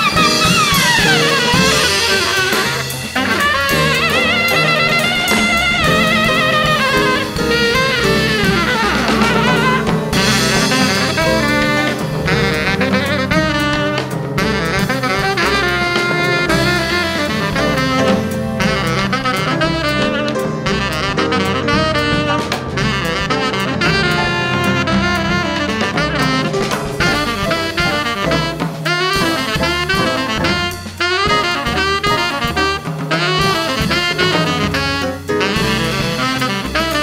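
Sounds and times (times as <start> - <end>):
jazz quartet playing: 0.0 - 37.0
tenor saxophone runs: 0.0 - 37.0.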